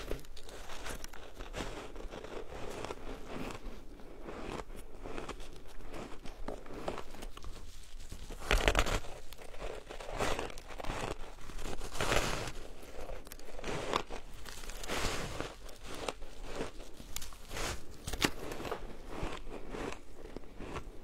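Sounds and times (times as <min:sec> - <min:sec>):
crunching of shaved ice chewing: 0:00.0 - 0:21.0.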